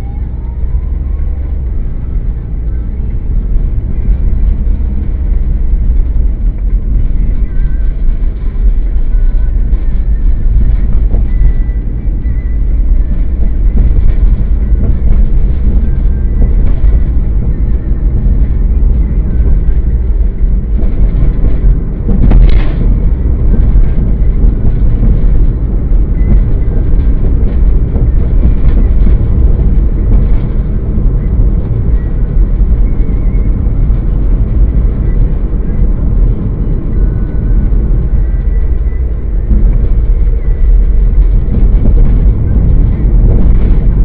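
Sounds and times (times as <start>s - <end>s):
road and engine rumble: 0.0s - 44.0s.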